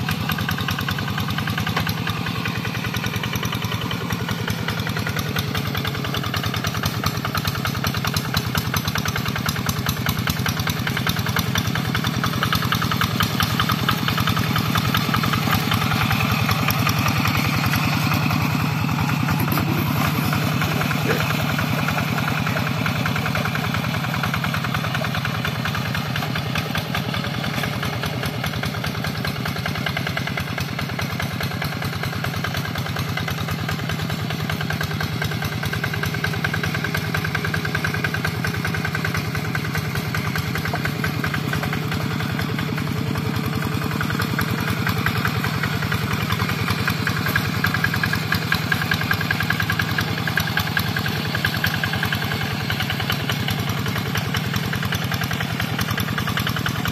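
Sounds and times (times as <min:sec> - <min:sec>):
diesel engine puttering: 0:00.0 - 0:56.9.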